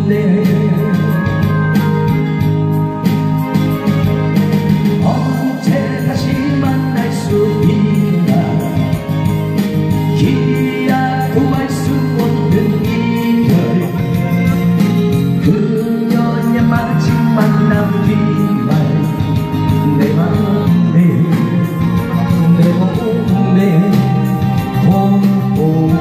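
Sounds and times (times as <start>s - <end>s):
man singing ballad into microphone: 0.0s - 2.4s, 5.0s - 26.0s
backing track through speakers: 0.0s - 26.0s.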